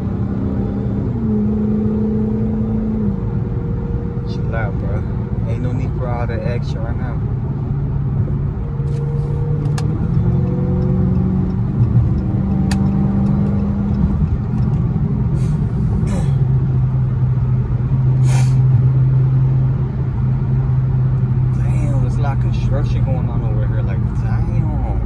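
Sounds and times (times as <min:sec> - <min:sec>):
car engine drone inside cabin: 0:00.0 - 0:25.0
road and tyre noise: 0:00.0 - 0:25.0.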